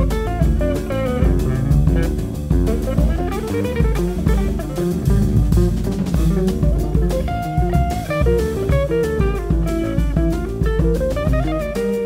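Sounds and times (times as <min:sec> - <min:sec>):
drum kit with cymbals: 0:00.0 - 0:12.0
electric bass: 0:00.0 - 0:12.0.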